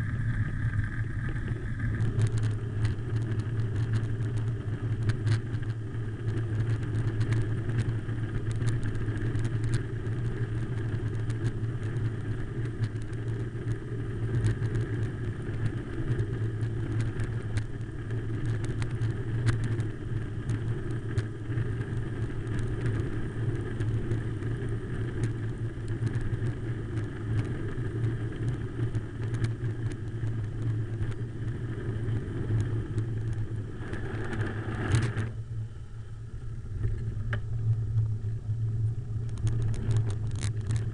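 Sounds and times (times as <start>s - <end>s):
bicycle tyre noise: 0.0s - 40.9s
steady low drone: 0.0s - 40.9s
wind rush on microphone: 0.0s - 40.9s
bicycle clicks and rattles: 0.2s - 35.4s, 36.7s - 40.9s.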